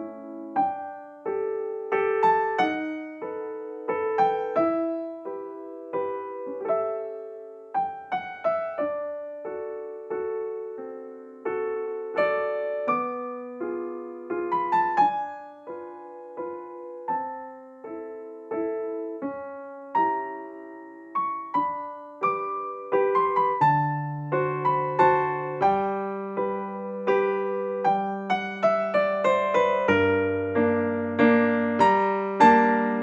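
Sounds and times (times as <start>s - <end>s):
slow solo piano: 0.0s - 33.0s.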